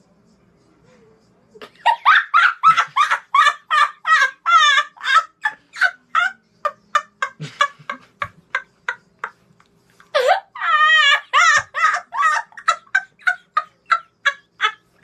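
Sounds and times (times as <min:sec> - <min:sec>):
boy laughing hysterically: 0:01.6 - 0:09.3, 0:10.1 - 0:15.0.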